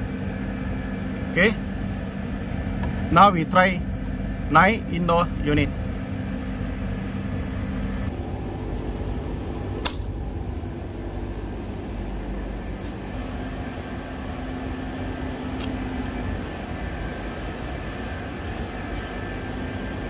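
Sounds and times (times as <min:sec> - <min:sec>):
air-conditioning plant drone: 0:00.0 - 0:20.0.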